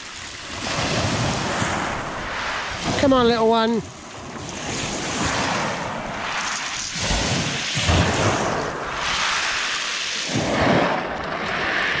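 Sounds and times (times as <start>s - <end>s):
waves washing over shingle: 0.0s - 12.0s
wind buffeting microphone: 0.0s - 12.0s.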